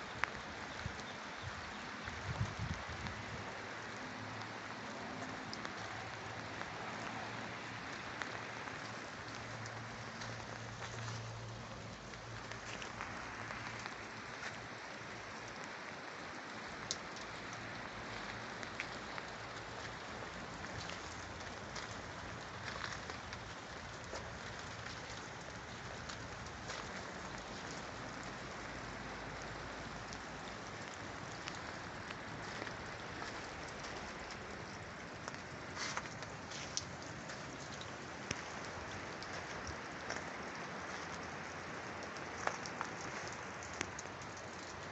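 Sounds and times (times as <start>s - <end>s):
light ticks: 5.1s - 15.7s, 16.6s - 44.9s.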